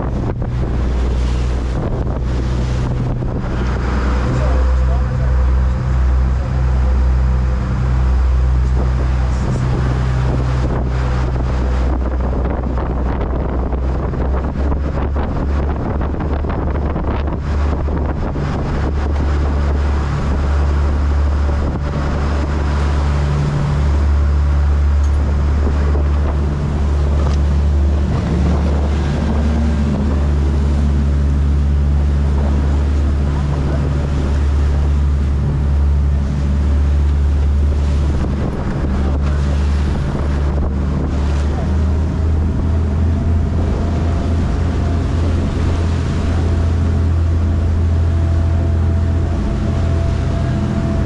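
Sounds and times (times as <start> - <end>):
boat engines droning: 0.0 - 51.0
wind on microphone: 0.0 - 51.0.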